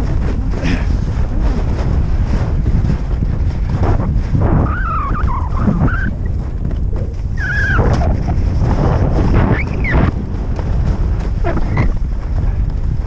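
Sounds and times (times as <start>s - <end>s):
skis scraping on snow: 0.0s - 13.0s
wind rushing over microphone: 0.0s - 13.0s.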